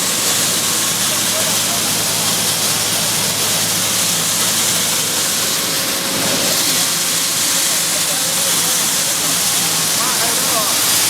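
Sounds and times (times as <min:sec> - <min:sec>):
hissing machine noise: 0:00.0 - 0:11.0.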